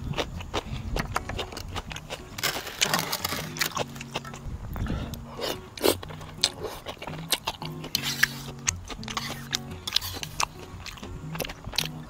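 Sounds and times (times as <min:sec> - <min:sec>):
chewing and smacking: 0:00.0 - 0:12.0
noodles slurped: 0:00.0 - 0:12.0.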